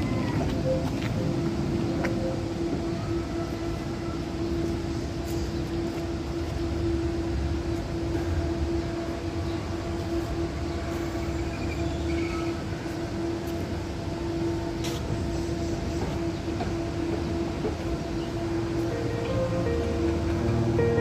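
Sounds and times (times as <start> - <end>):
tram electrical hum and rumble: 0.0 - 21.0.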